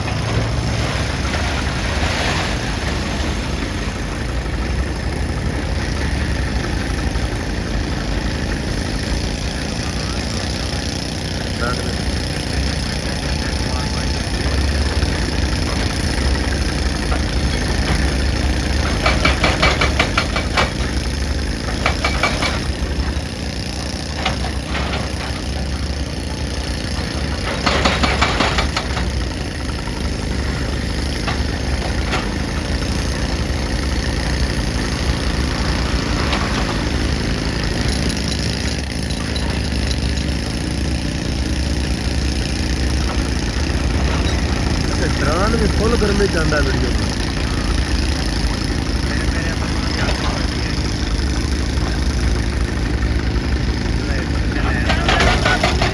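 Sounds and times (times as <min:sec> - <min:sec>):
clattering bursts: 0:00.0 - 0:55.9
excavator diesel engine running: 0:00.0 - 0:55.9.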